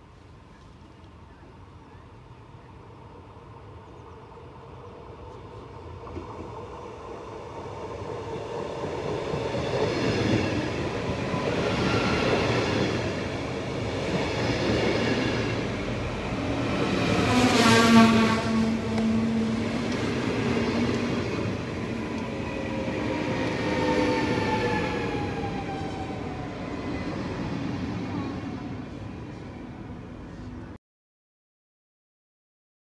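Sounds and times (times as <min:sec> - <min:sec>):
electric train running past: 0:02.1 - 0:30.7.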